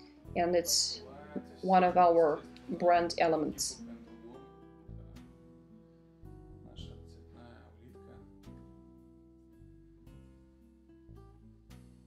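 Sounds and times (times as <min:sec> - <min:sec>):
faint acoustic guitar music: 0:00.0 - 0:12.0.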